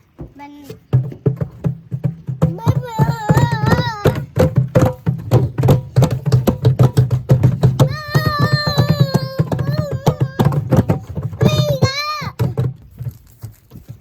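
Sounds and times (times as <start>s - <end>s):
toy drum and block strikes: 0.2s - 13.2s.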